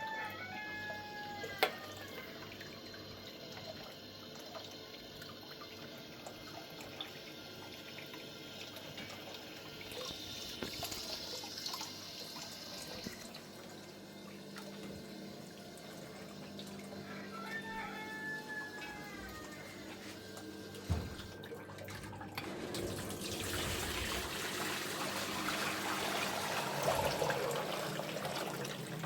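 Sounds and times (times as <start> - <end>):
water running and trickling: 0.6 - 17.6, 18.5 - 29.0.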